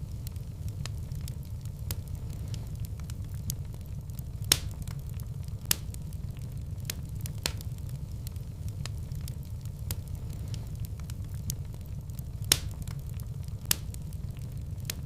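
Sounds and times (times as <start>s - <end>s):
fire crackling in fireplace: 0.0s - 15.0s
sharp pops of fire: 0.1s - 15.0s.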